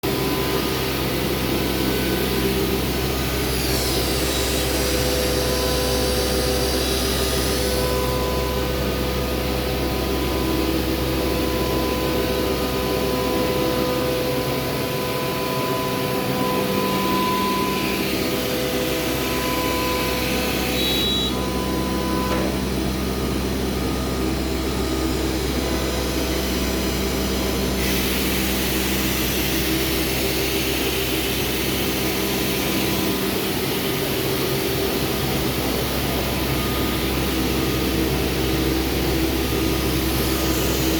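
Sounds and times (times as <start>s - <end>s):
cnc router drone: 0.0s - 40.9s.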